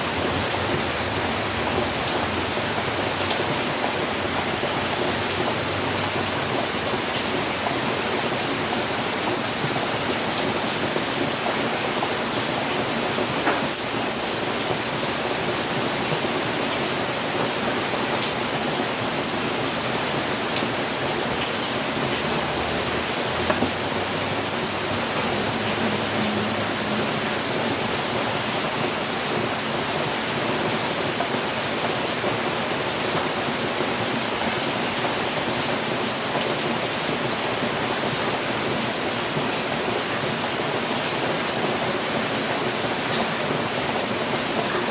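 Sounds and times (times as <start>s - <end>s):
rain on a roof: 0.0s - 44.9s.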